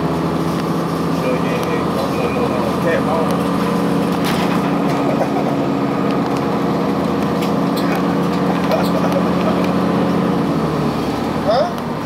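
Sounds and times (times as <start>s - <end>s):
diesel bus engine droning: 0.0s - 12.0s.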